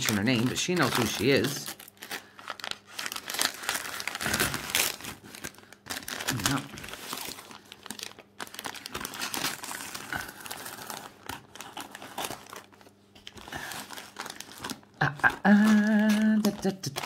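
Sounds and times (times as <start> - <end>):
paper and tape crinkling and tearing: 0.0 - 17.0.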